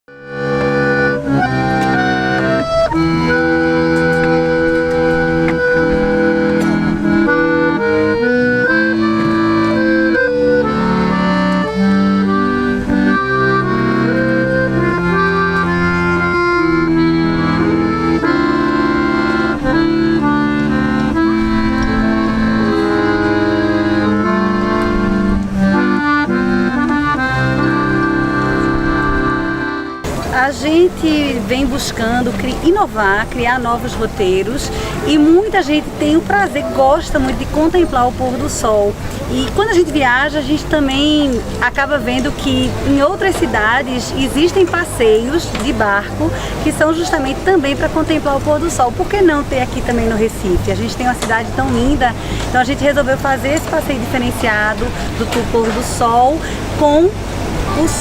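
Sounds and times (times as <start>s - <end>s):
accordion playing a melody: 0.0s - 58.0s.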